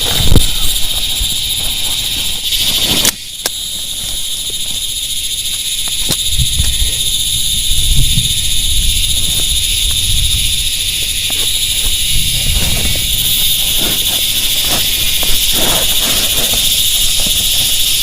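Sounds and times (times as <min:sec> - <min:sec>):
night insects trilling: 0:00.0 - 0:18.0
sharp ticks: 0:00.0 - 0:18.0.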